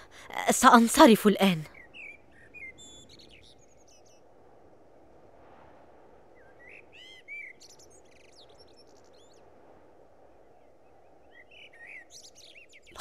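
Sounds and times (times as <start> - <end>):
faint outdoor ambience hiss: 0.0 - 13.0.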